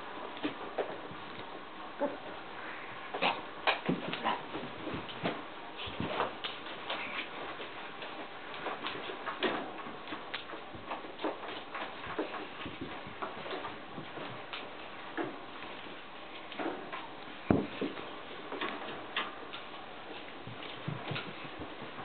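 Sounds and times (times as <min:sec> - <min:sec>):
puppy scrambling on rug: 0:03.2 - 0:22.0.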